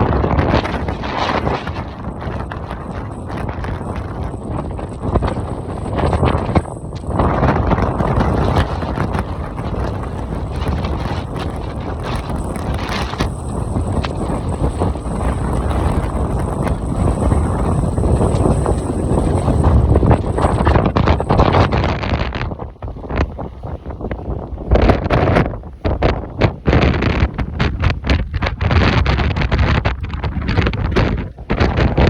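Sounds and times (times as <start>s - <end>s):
strong wind gusting: 0.0s - 32.0s.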